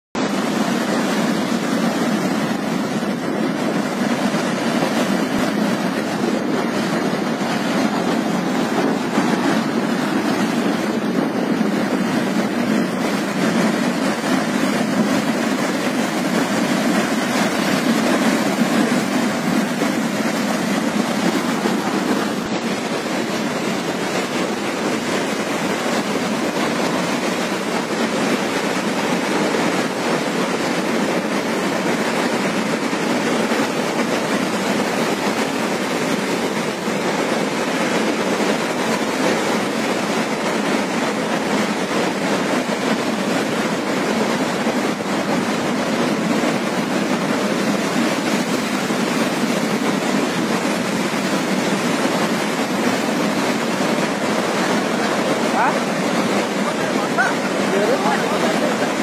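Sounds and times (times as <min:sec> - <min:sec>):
floodwater rushing: 0:00.2 - 0:59.0.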